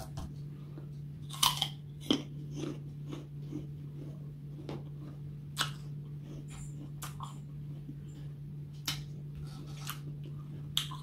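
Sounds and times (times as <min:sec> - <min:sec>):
low steady hum: 0:00.0 - 0:11.0
apple crunching: 0:01.2 - 0:11.0.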